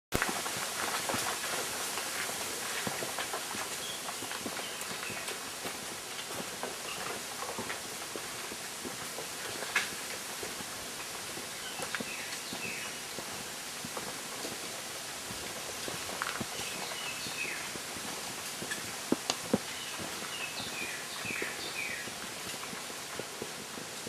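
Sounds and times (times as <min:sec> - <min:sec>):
footsteps on forest trail: 0:00.2 - 0:24.0
steady outdoor hiss: 0:00.2 - 0:24.0.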